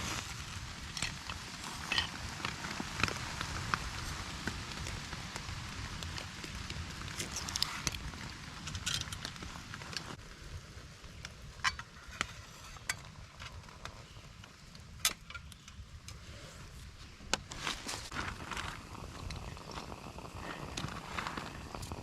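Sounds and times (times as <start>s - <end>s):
low wind rumble: 0.0s - 22.0s
rain-like hiss: 0.0s - 22.0s.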